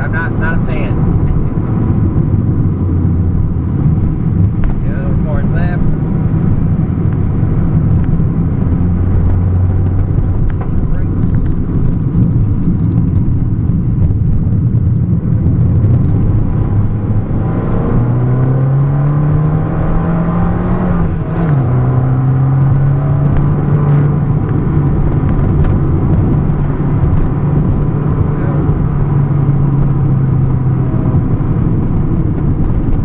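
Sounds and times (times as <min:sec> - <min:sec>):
car engine accelerating: 0:00.0 - 0:33.0
road rumble: 0:00.0 - 0:33.0.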